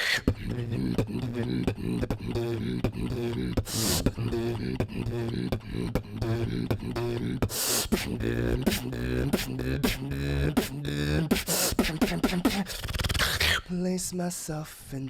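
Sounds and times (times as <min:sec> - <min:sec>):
beatboxing: 0:00.0 - 0:13.8.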